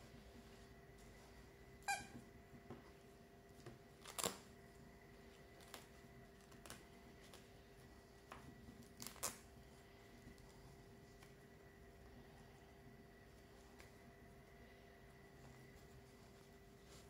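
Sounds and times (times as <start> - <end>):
faint steady hum: 0.0 - 17.0
soft felt rustles: 0.0 - 17.0.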